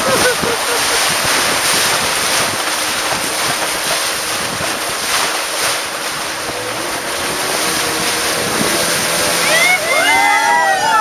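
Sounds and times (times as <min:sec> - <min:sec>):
river rapids rushing: 0:00.0 - 0:11.0
wind buffeting microphone: 0:00.0 - 0:11.0.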